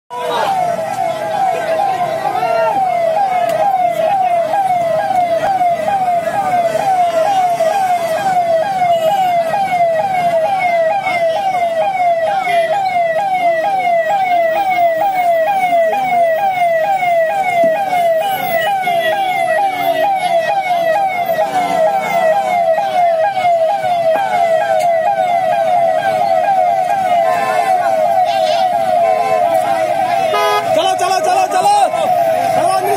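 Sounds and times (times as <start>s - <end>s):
crowd noise: 0.1s - 32.9s
electronic siren yelping: 0.1s - 32.9s
traffic noise: 0.1s - 32.9s.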